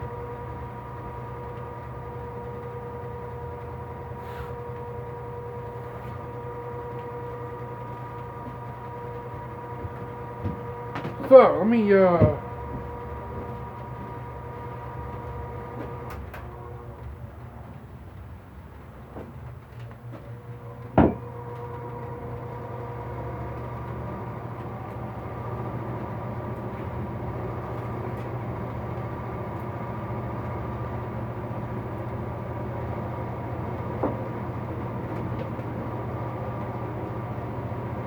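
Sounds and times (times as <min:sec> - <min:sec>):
electric fan humming: 0:00.0 - 0:38.0.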